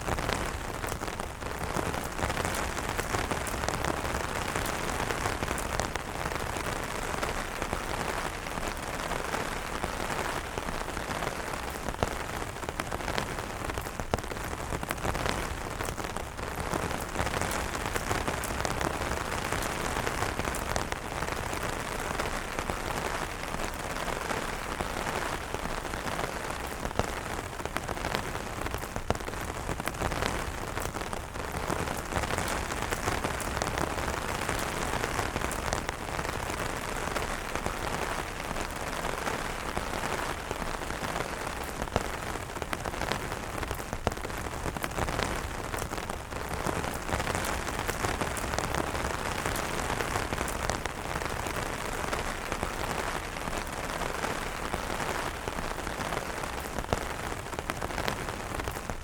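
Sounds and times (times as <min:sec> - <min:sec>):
rain pattering on umbrellas: 0:00.0 - 0:59.0.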